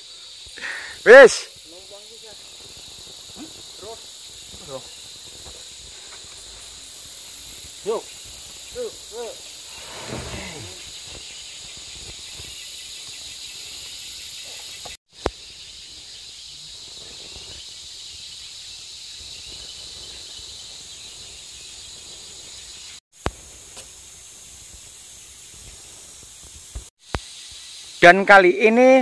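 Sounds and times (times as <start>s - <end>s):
forest insects buzzing: 0.0s - 29.0s.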